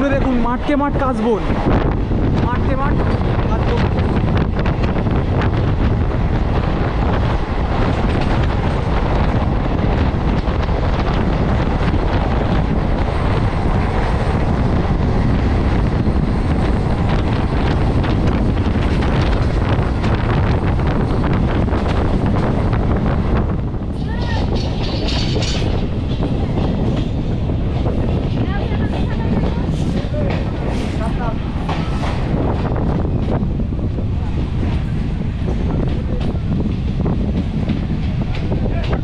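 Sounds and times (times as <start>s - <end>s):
train running on rails: 0.0s - 39.0s
wind rushing over microphone: 0.0s - 39.0s.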